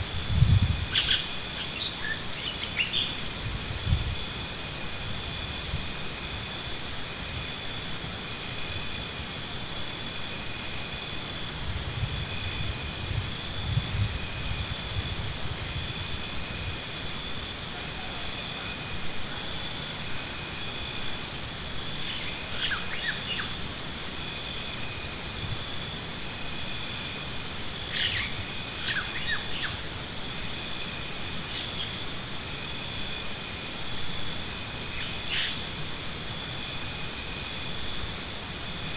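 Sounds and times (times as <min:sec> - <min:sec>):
insects chirping high tones: 0:00.0 - 0:38.9
rapid pulsed insect trill: 0:00.0 - 0:38.9.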